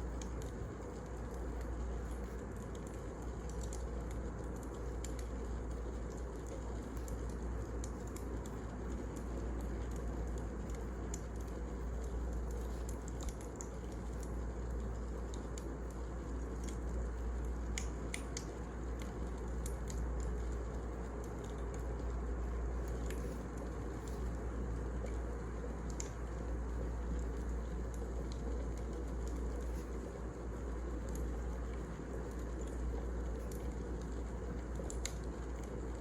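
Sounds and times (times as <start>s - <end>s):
fire crackling and popping: 0.0s - 36.0s
fire rumbling: 0.0s - 36.0s.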